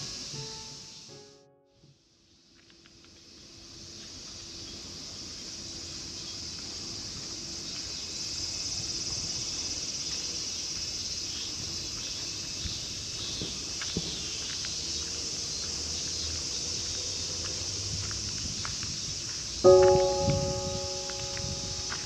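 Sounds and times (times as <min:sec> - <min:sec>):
cicadas buzzing: 0:00.0 - 0:01.2, 0:02.3 - 0:22.0.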